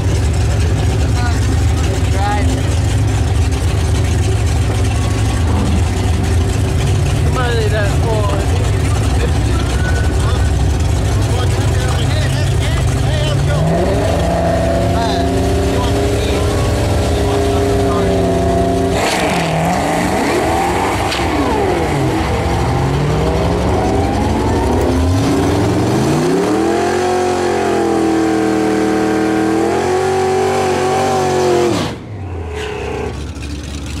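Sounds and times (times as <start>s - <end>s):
car engine at full throttle: 0.0s - 34.0s.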